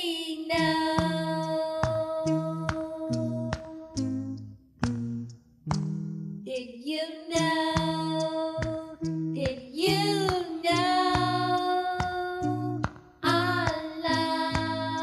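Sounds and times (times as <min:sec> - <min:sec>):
person singing long held notes: 0:00.0 - 0:04.4, 0:06.5 - 0:15.0
plucked bass line: 0:00.5 - 0:06.5, 0:07.4 - 0:15.0
light regular beat: 0:01.0 - 0:06.4, 0:07.4 - 0:15.0.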